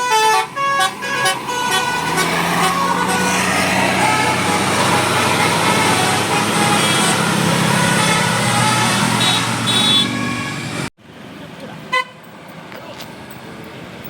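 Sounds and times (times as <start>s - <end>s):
bus engine running: 0.0s - 14.0s
road and street noise: 0.0s - 14.0s.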